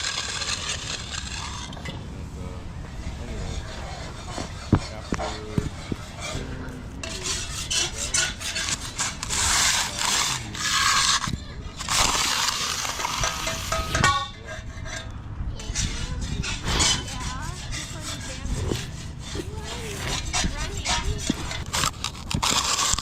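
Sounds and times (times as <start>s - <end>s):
rough scraping and rubbing: 0.0s - 23.0s.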